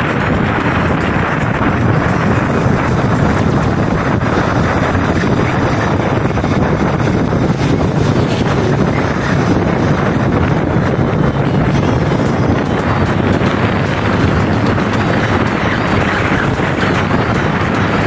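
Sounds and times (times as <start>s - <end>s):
motorcycle engine drone: 0.0s - 18.0s
wind buffeting microphone: 0.0s - 18.0s.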